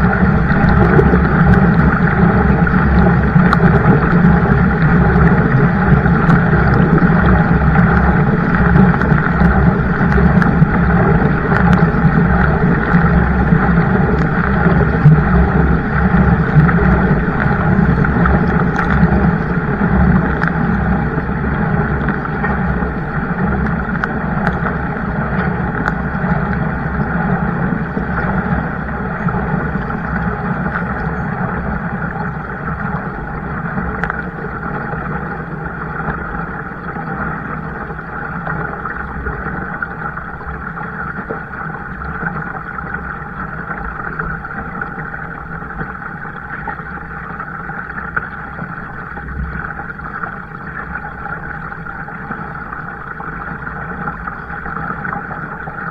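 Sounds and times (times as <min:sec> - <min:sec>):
kayak rushing on water: 0:00.0 - 0:55.9
low hum: 0:00.0 - 0:55.9.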